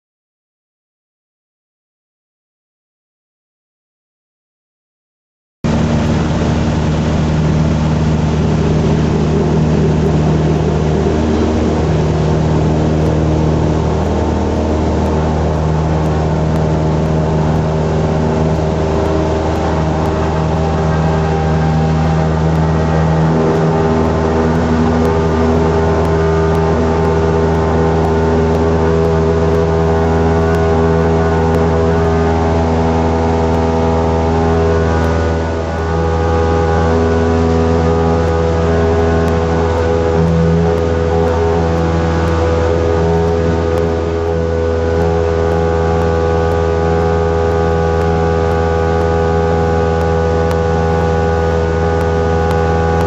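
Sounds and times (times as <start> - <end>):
propeller plane engine droning: 5.7 - 53.0.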